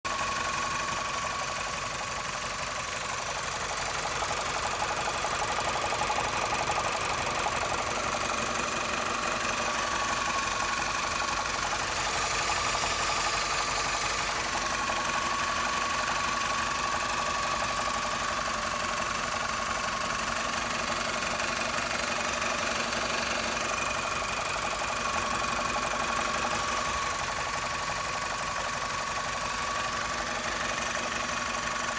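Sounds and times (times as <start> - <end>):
car engine running with rattle: 0.1 - 31.9.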